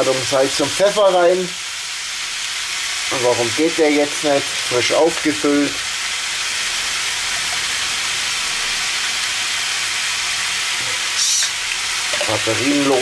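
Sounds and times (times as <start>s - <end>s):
meat and onions sizzling in pan: 0.0s - 13.0s.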